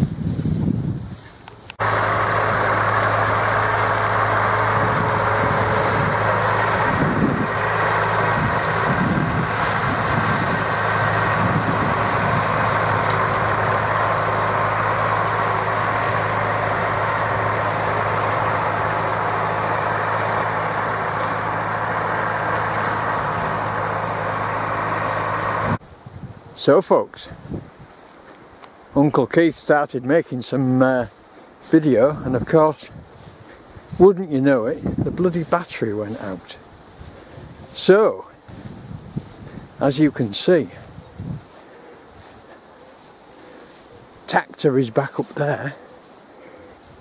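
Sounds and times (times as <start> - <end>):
tractor engine running: 0.1 - 25.9, 29.7 - 47.0.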